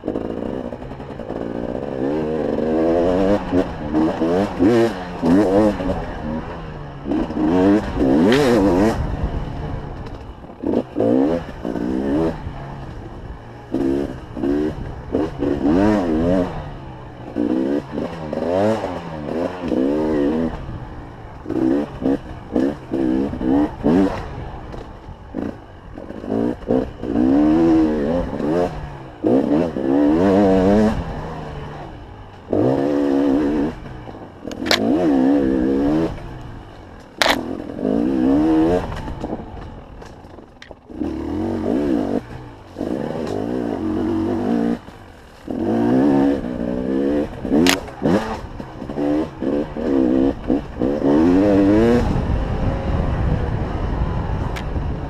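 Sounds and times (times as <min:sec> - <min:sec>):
clatter: 0:00.0 - 0:53.6, 0:54.3 - 0:55.0
motorcycle engine revving: 0:00.0 - 0:55.0.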